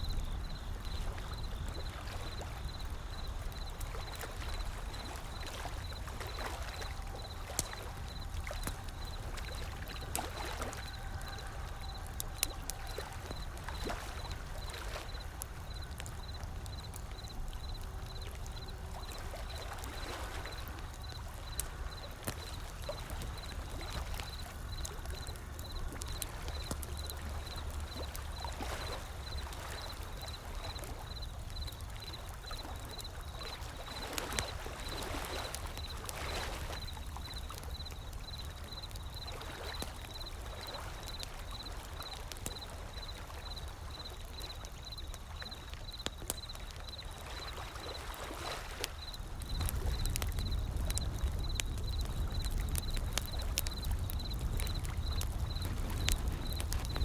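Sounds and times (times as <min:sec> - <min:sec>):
wood fire crackling and popping: 0:00.0 - 0:47.2, 0:48.8 - 0:57.0.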